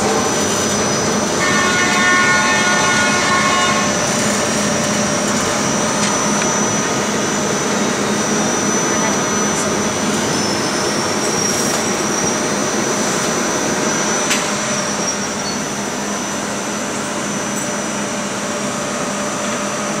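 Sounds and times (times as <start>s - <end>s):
train coach rushing noise: 0.0s - 16.6s.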